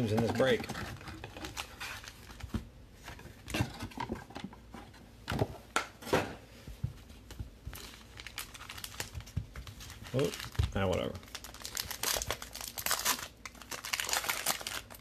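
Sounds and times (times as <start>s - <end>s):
card packs rustling: 0.0s - 4.4s, 7.3s - 15.0s.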